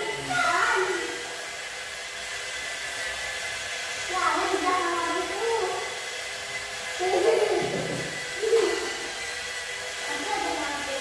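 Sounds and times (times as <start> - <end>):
toy car motors whirring: 0.0 - 11.0.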